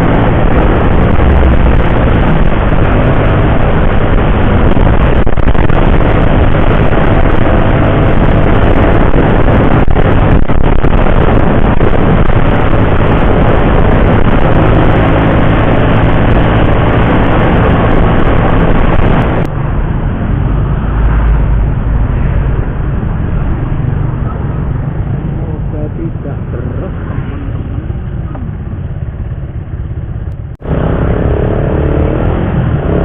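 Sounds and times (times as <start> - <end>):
low motorcycle engine hum: 0.0 - 33.0
wind noise: 0.0 - 33.0.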